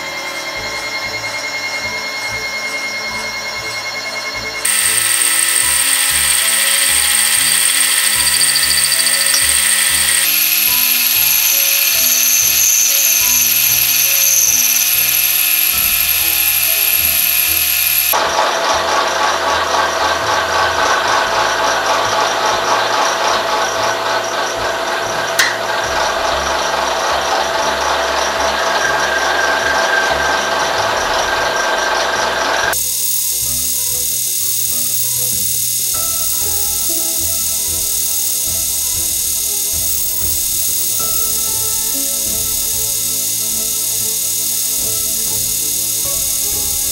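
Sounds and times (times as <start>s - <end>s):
background music: 0.0s - 46.9s
milling machine cutting metal: 4.6s - 46.9s.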